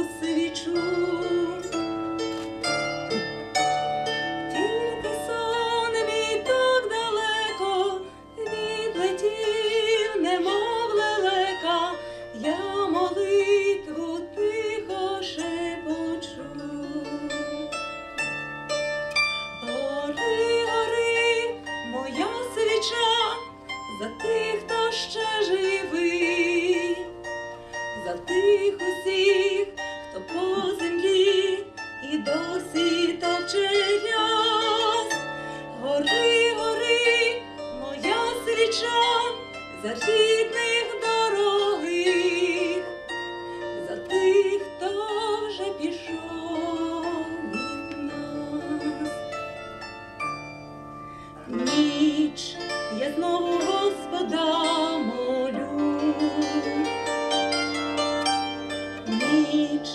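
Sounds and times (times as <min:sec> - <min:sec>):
woman singing: 0:00.0 - 0:01.9, 0:04.4 - 0:17.8, 0:19.6 - 0:27.2, 0:28.0 - 0:43.0, 0:43.6 - 0:49.4, 0:51.4 - 0:57.1, 0:59.0 - 0:59.9
plucked bandura strings: 0:00.0 - 0:59.9.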